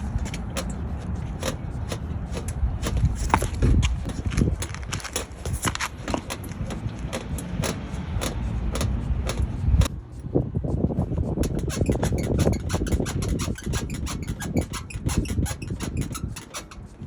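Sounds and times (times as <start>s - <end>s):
headlight clicking and rattling: 0.0s - 10.3s, 11.3s - 17.0s
low road rumble: 0.0s - 17.0s.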